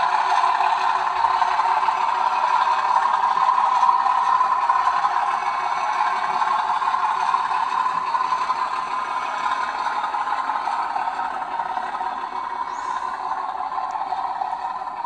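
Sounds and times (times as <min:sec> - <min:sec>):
model locomotive diesel engine sound: 0:00.0 - 0:15.0.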